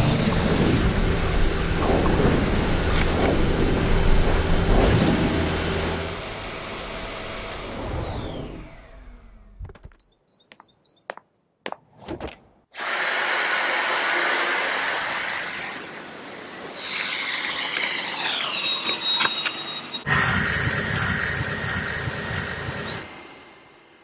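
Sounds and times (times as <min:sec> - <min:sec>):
vacuum cleaner motor whine: 0:00.0 - 0:09.6, 0:12.8 - 0:24.0.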